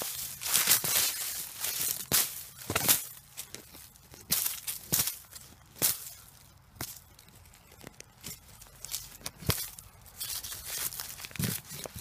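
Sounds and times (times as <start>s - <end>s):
hand tool digging into soil: 0.0s - 12.0s.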